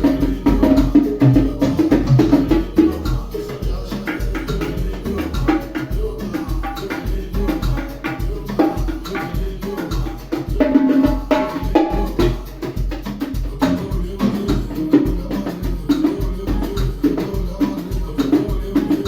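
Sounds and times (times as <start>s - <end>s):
conga drum strokes: 0.0s - 19.0s
percussion music with bass pulse: 0.0s - 19.0s.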